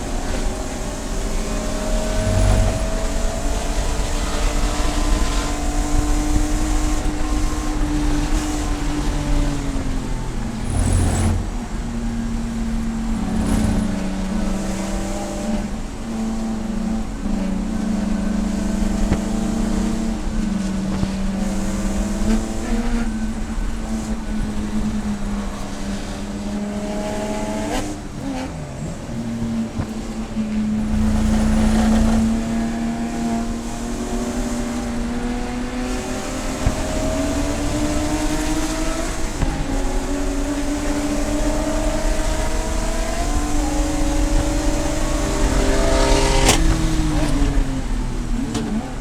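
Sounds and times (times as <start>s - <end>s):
race car engine running hard: 0.0s - 49.0s.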